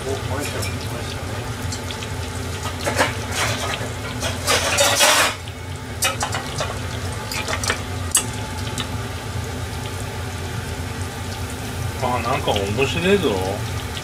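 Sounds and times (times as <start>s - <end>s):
oil bubbling and crackling: 0.0s - 14.0s.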